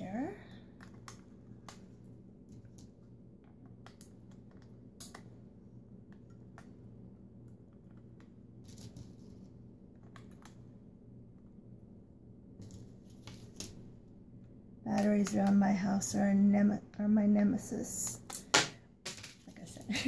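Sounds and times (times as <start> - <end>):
faint steady low hum: 0.0 - 20.0.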